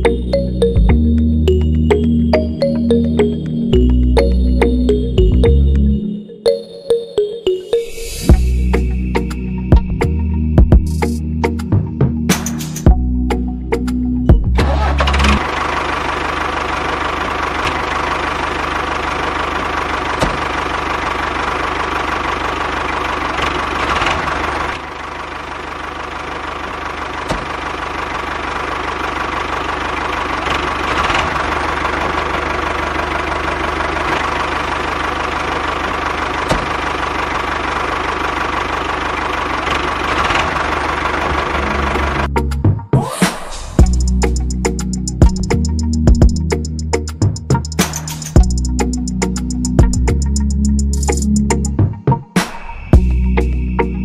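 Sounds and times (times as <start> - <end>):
tractor engine idling: 0.0 - 5.8, 12.4 - 42.6, 43.6 - 51.8.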